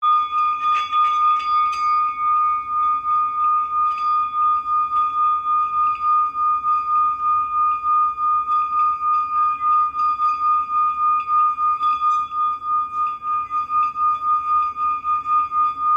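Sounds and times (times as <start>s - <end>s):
singing bowl ringing: 0.0s - 15.9s.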